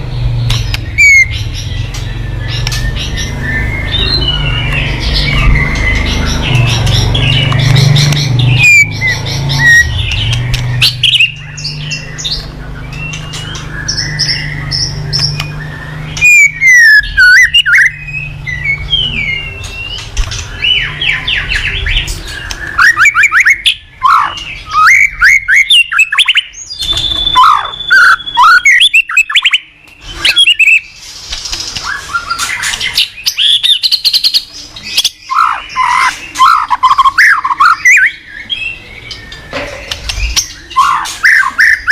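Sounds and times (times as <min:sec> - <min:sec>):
songbird whistling song: 0:00.4 - 0:41.9.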